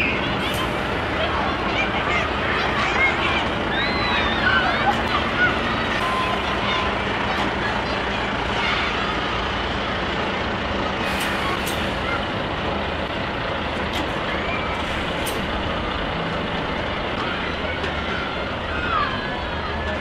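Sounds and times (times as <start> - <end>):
truck diesel engine running: 0.0 - 20.0
tyre and road noise: 0.0 - 20.0.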